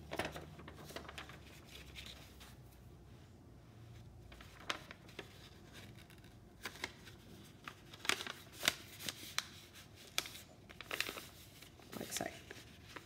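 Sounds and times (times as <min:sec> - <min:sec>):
paper crackling: 0:00.0 - 0:02.7, 0:04.2 - 0:13.0.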